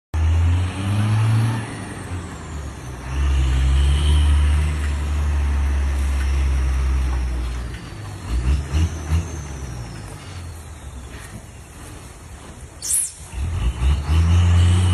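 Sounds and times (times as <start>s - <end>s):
truck diesel engine labouring: 0.2s - 14.9s.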